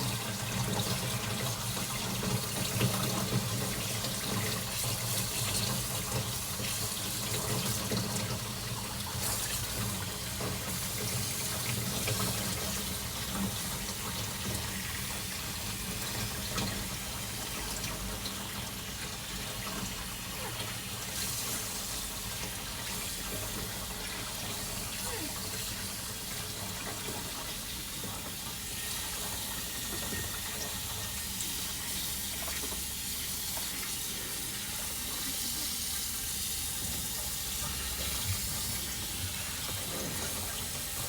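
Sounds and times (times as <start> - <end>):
running water from tap: 0.0 - 41.0.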